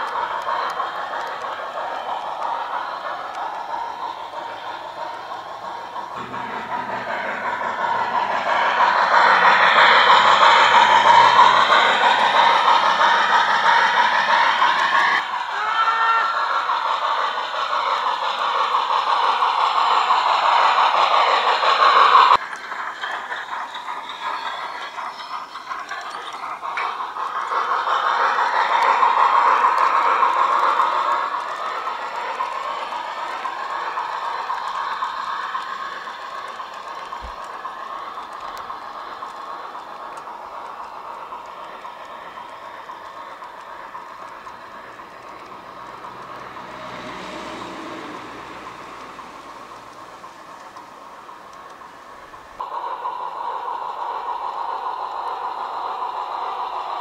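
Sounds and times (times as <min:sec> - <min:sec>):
model train wheels rattling on rail: 0:00.0 - 0:57.0.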